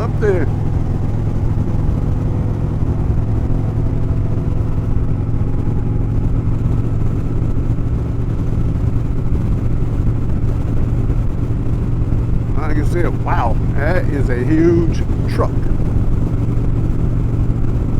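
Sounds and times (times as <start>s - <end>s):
motorcycle engine cruising: 0.0s - 17.9s
wind noise: 0.0s - 17.9s.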